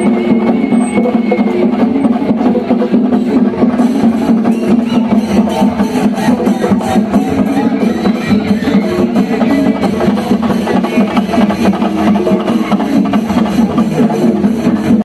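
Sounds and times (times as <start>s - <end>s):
loud festival music: 0.0s - 15.0s.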